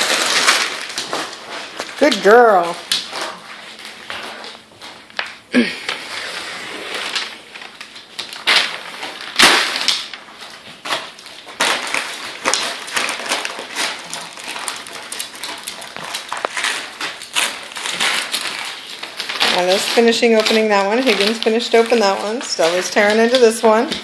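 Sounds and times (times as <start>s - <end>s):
wrapping paper ripping: 0.0s - 24.0s.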